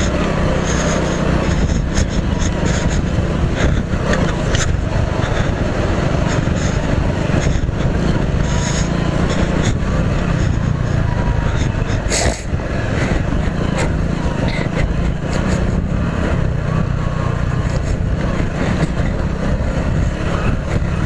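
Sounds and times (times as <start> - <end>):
motorcycle engine rumbling: 0.0 - 21.0
motorcycle knocks and rattles: 0.0 - 21.0.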